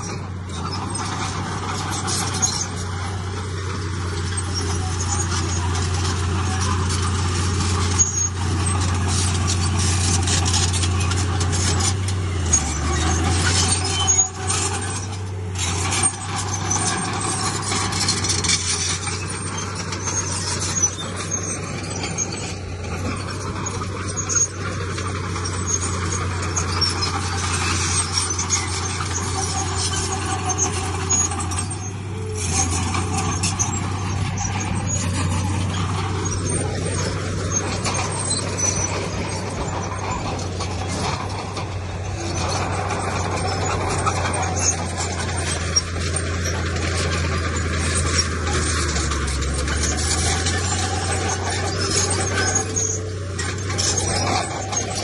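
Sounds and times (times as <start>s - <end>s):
heavy diesel engine drone: 0.0s - 55.0s
metallic rattling and squeaks: 0.0s - 55.0s.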